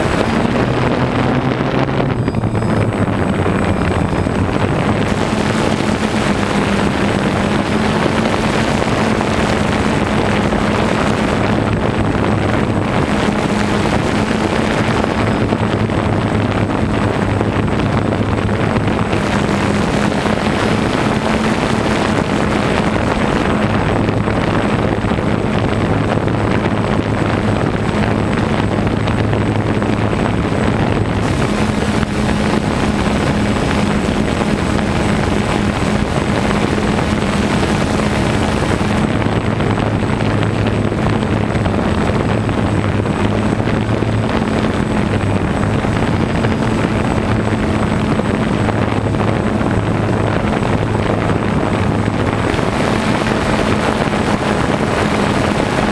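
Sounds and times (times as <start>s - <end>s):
drone propellers buzzing: 0.0s - 55.9s.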